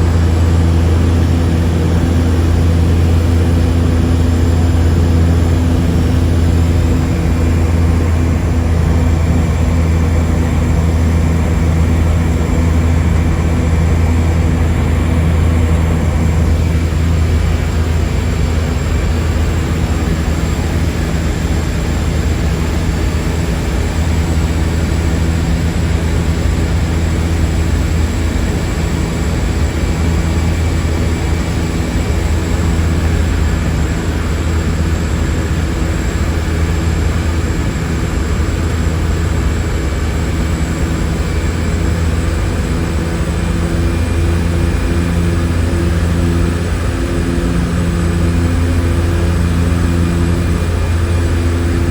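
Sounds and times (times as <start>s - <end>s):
propeller engines droning: 0.0s - 51.9s.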